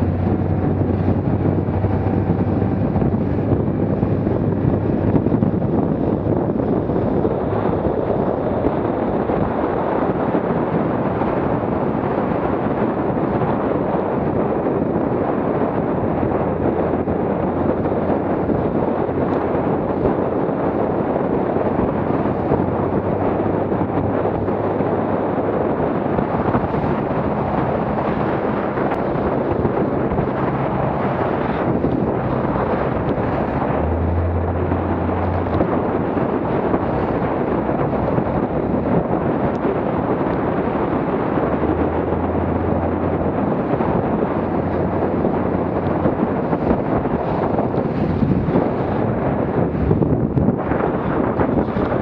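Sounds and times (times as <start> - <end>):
low boat engine hum: 0.0 - 52.0
wind buffeting microphone: 0.0 - 52.0.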